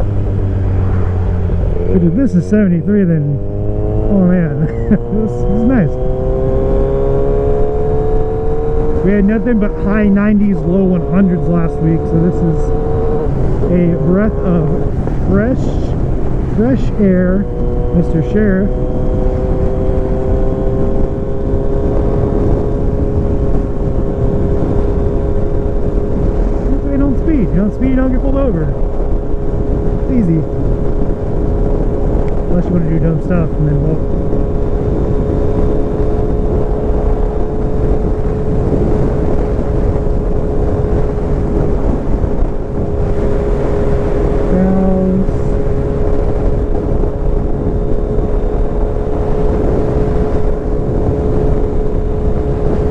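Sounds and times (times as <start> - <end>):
motorcycle engine cruising: 0.0 - 52.9
wind on microphone: 0.0 - 52.9.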